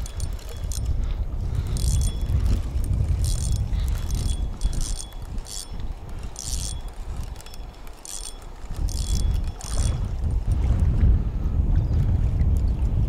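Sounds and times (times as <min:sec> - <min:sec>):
fishing reel ratcheting: 0:00.0 - 0:10.6
wind rumble on microphone: 0:00.0 - 0:13.0.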